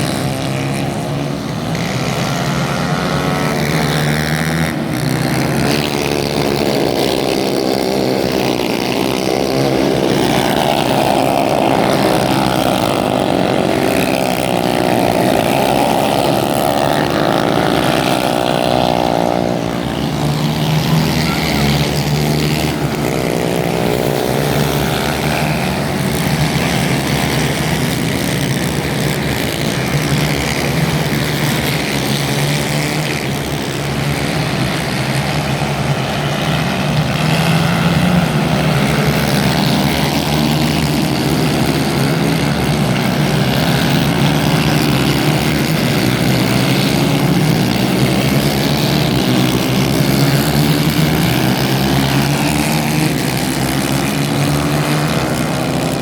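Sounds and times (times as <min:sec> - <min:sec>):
racing kart engines: 0:00.0 - 0:56.0.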